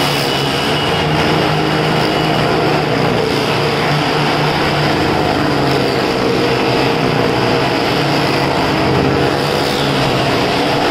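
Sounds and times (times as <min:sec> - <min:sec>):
motorcycle engines droning: 0:00.0 - 0:10.9.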